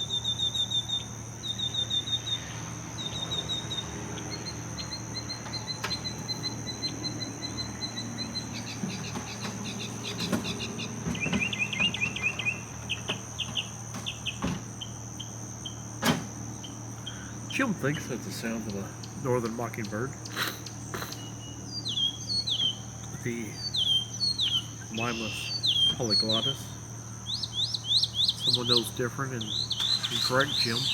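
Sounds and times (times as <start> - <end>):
bird singing repeated notes: 0.0 - 30.9
high insect drone: 0.0 - 30.9.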